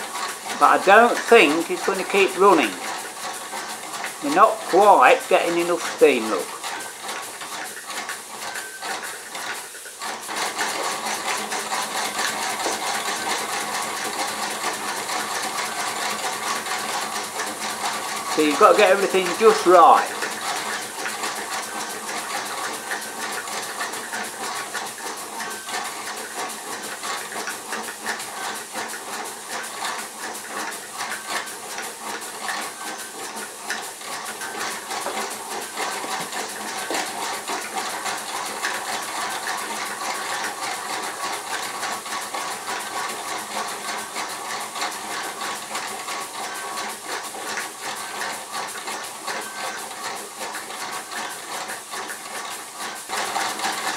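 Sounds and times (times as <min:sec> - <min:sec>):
model steam engine running: 0:00.0 - 0:53.9.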